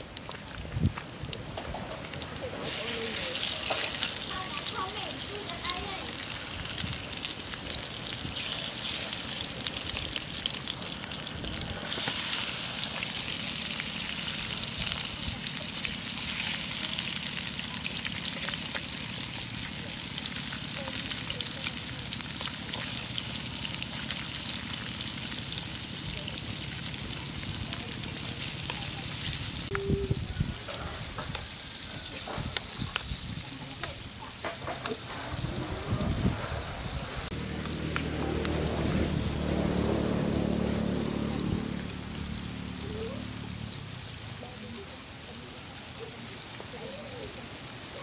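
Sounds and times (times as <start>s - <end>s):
fish sizzling in hot oil: 0.0s - 48.0s.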